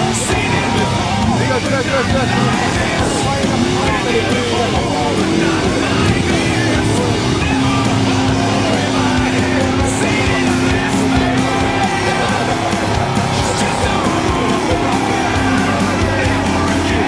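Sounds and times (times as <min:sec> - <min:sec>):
guitar: 0:00.0 - 0:17.0
person singing: 0:00.0 - 0:17.0.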